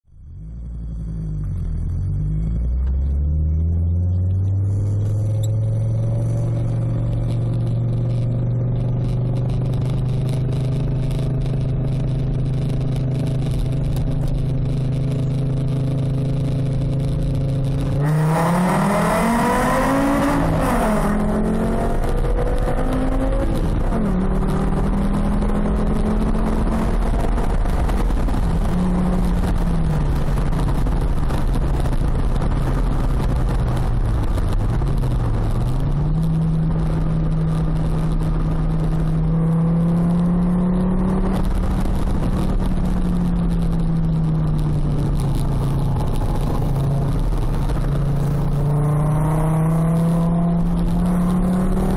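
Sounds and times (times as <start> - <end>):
car engine through loud exhaust: 0.0 - 51.9.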